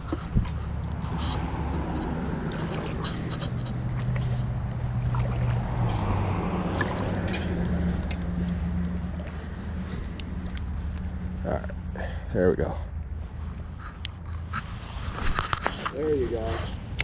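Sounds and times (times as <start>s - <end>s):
low motor hum: 0.0s - 15.2s.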